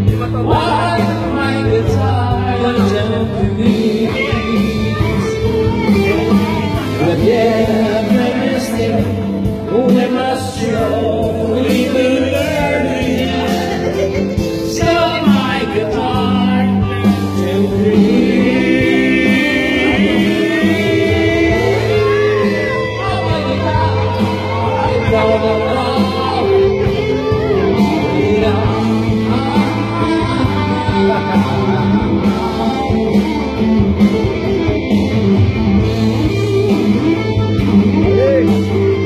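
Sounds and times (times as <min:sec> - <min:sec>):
song with singing voices: 0:00.0 - 0:39.0.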